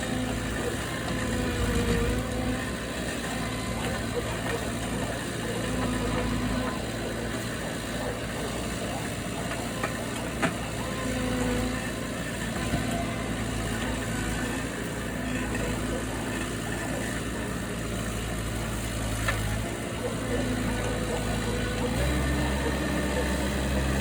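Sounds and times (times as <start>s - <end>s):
motor engine idling: 0.0s - 24.0s.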